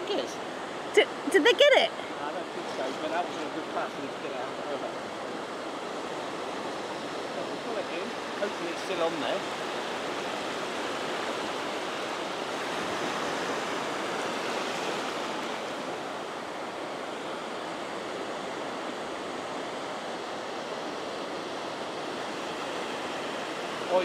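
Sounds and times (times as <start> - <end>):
ocean surf breaking: 1.9 - 24.0.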